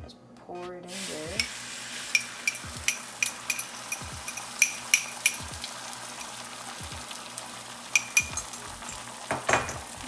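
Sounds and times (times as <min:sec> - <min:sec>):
eggs sizzling in oil: 0:00.9 - 0:10.0.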